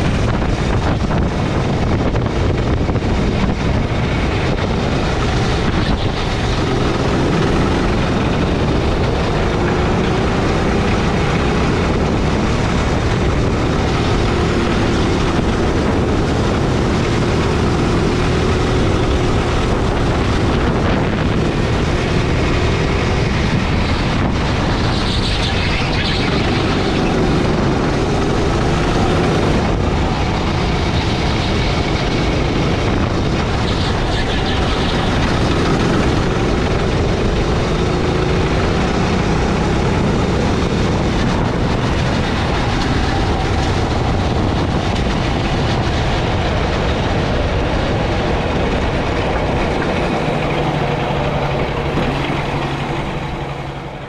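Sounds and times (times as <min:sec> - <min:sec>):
go-kart engine running hard: 0:00.0 - 0:54.0
road noise: 0:00.0 - 0:54.0
wind rush: 0:00.0 - 0:54.0.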